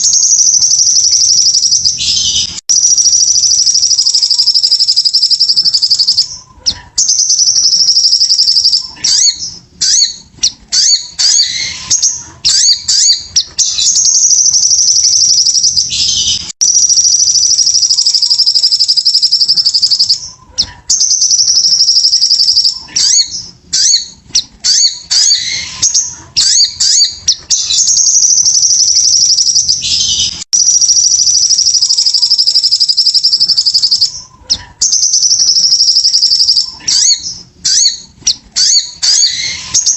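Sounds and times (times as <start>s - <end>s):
songbird chirps and twitters: 0.0s - 39.9s.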